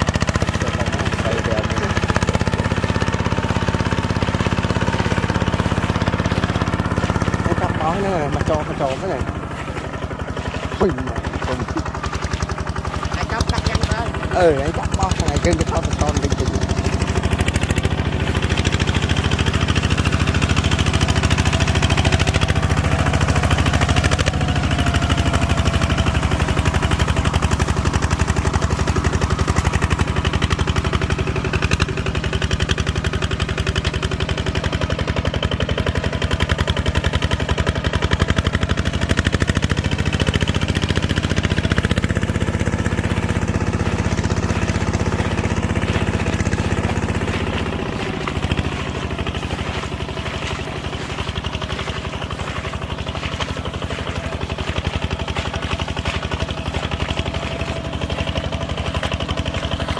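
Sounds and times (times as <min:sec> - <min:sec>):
farm machinery engine running: 0:00.0 - 0:59.9.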